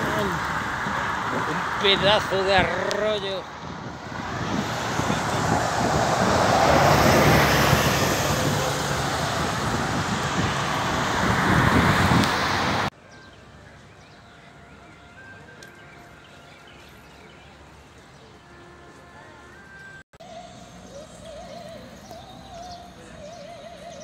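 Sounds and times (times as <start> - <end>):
road traffic roar: 0.0 - 24.0
wind: 0.0 - 24.0.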